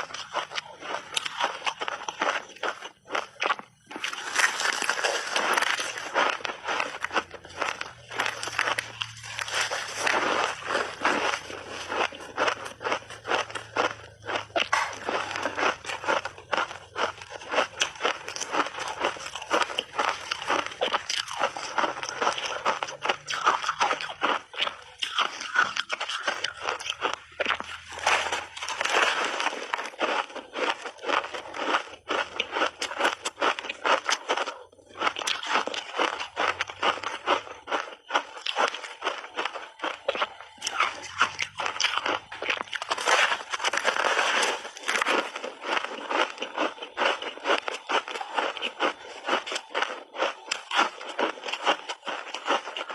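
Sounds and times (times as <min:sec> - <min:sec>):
person crunching ice: 0:00.0 - 0:52.9.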